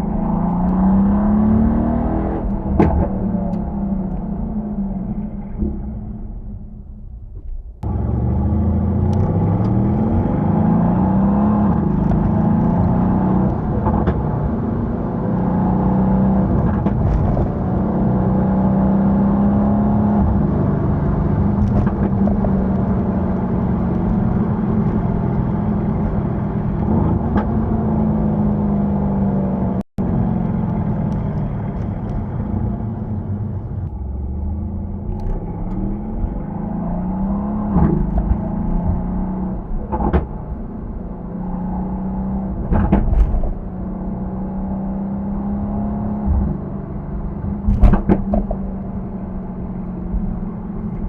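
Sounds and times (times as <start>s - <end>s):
car engine driving: 0.0s - 51.0s.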